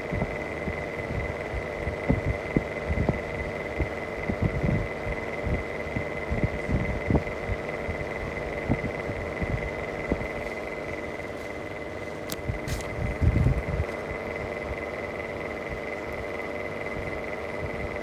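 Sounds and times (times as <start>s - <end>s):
exhaust fan humming and whining: 0.0s - 18.0s
fan knocking and throbbing: 0.0s - 18.0s.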